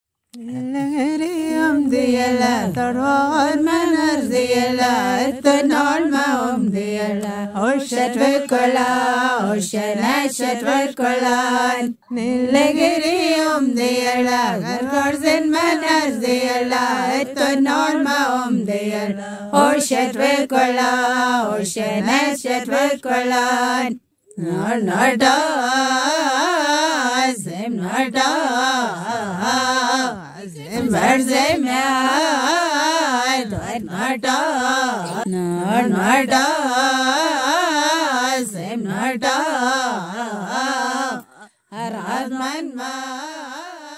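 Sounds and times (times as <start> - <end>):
woman singing slow melody: 0.3 - 43.9.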